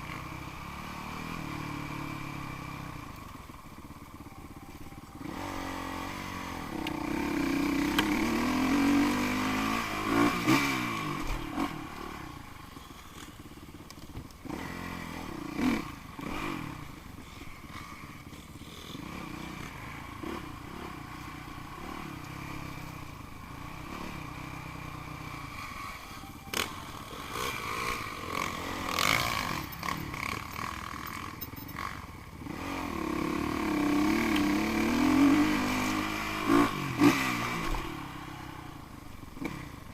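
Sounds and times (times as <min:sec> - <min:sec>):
dirt bikes revving and passing: 0:00.0 - 0:39.9.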